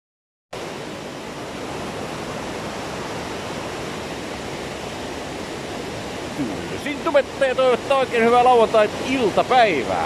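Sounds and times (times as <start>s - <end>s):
river rapids rushing: 0.6s - 10.0s.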